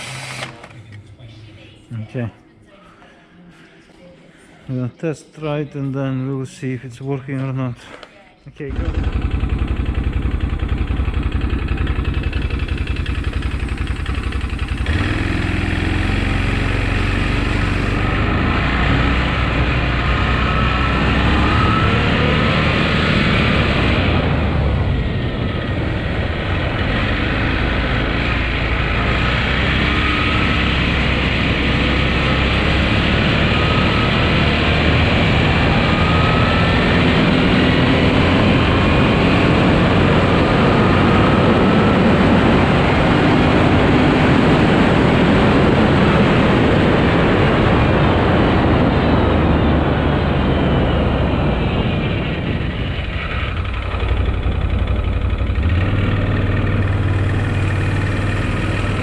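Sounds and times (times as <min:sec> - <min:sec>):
engine running hard: 0:08.6 - 0:59.0
faint whines rising in pitch: 0:08.6 - 0:59.0.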